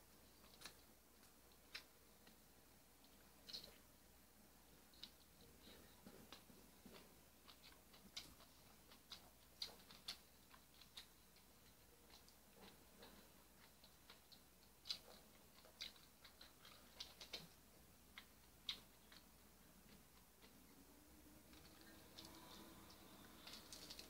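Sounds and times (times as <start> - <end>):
chewing clicks and smacks: 0.4 - 2.4, 3.0 - 3.8, 4.9 - 20.7, 21.4 - 24.0.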